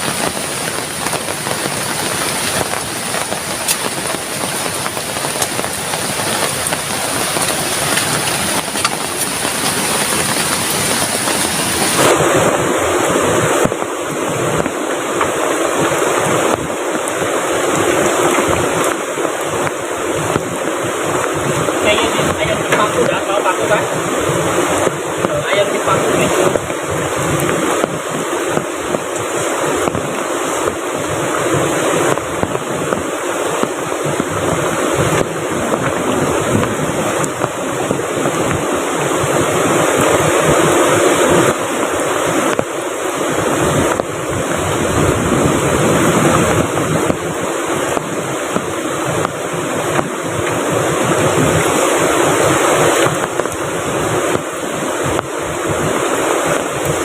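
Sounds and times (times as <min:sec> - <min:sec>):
heavy rain: 0:00.0 - 0:57.0
river rushing: 0:00.0 - 0:57.0.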